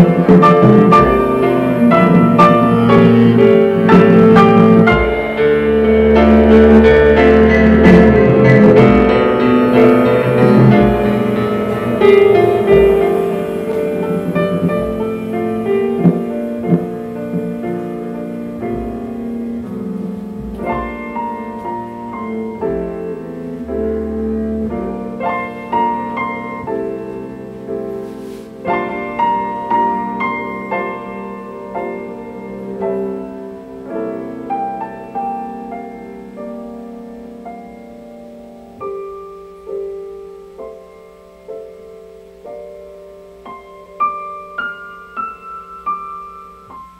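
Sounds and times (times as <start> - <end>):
solo piano music: 0.0 - 46.9.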